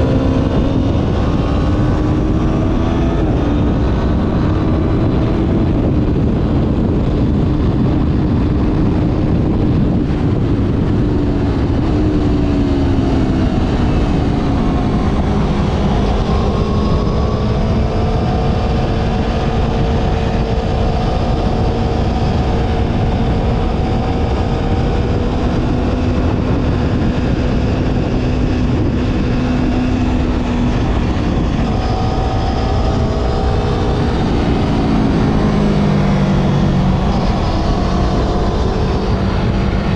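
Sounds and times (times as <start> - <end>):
heavy low noise rush: 0.0 - 39.9
motorcycle engine running: 0.0 - 39.9.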